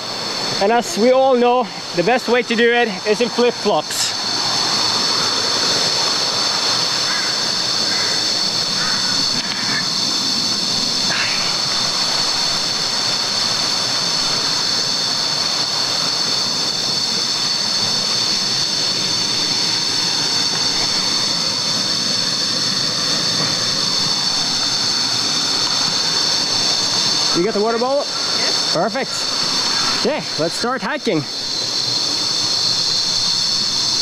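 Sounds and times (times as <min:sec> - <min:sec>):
even rushing hiss: 0:00.0 - 0:34.0
high-pitched insect chorus: 0:00.0 - 0:34.0.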